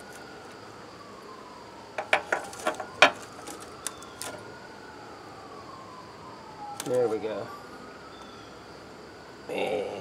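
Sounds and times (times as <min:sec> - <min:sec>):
distant siren wailing: 0:00.0 - 0:10.0.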